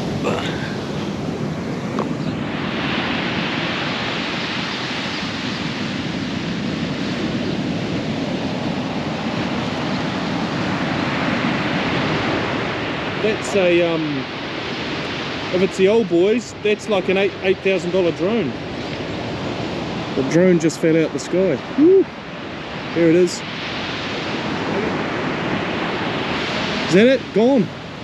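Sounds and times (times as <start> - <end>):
surf washing onto beach: 0.0 - 28.0
wind on microphone: 0.0 - 28.0.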